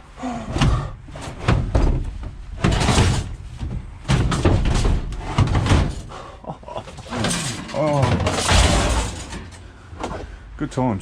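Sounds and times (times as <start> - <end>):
metal tumble dryer banging and scraping: 0.6 - 6.2, 6.9 - 10.2.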